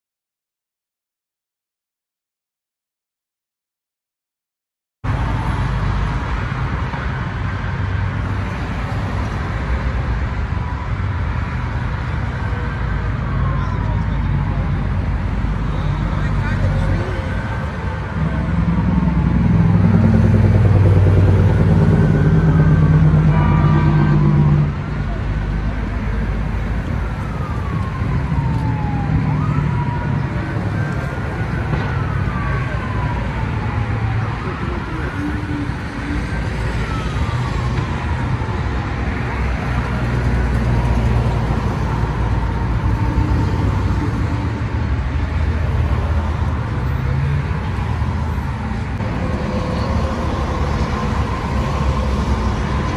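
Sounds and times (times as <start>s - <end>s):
freeway traffic rumble: 5.0s - 52.9s
emergency siren wailing: 8.5s - 52.9s.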